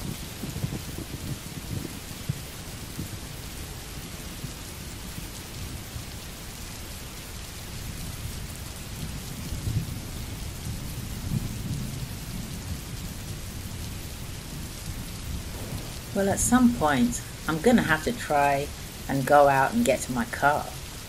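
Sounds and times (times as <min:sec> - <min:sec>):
low rumble of thunder: 0:00.0 - 0:07.0, 0:07.6 - 0:21.0
heavy rain on wet path: 0:00.0 - 0:21.0.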